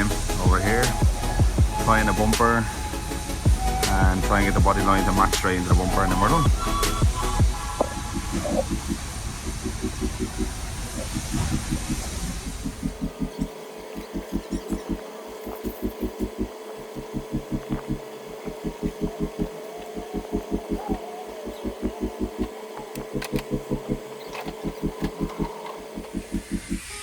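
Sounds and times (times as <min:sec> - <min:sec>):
music with pulsing bass beat: 0:00.0 - 0:27.0.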